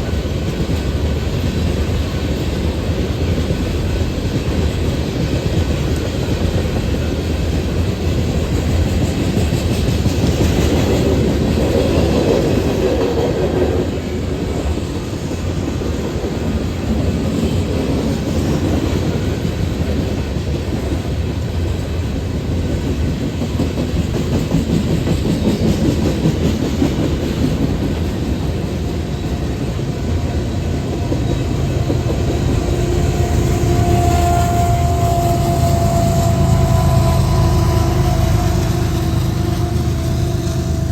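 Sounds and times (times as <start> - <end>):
train cars rumbling past: 0.0 - 40.9.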